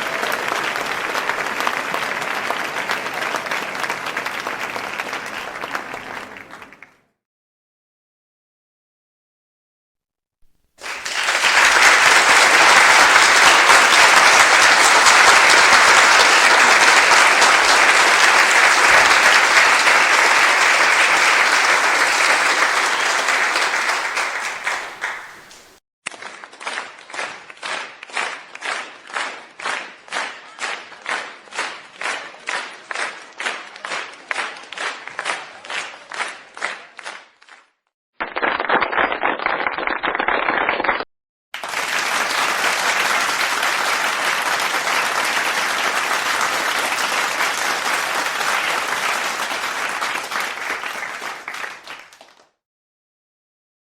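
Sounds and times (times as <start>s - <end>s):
rhythmic clapping: 0.0s - 6.9s, 10.8s - 37.6s, 41.6s - 52.5s
crowd applause: 0.0s - 7.0s, 10.8s - 37.3s, 41.6s - 52.5s.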